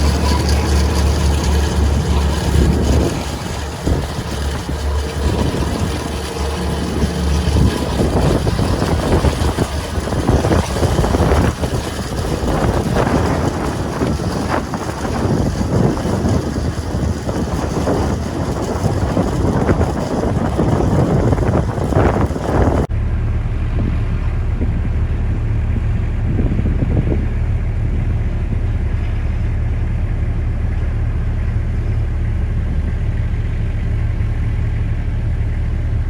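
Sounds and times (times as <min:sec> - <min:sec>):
diesel engine running: 0:00.0 - 0:36.0
wind buffeting microphone: 0:00.0 - 0:36.0.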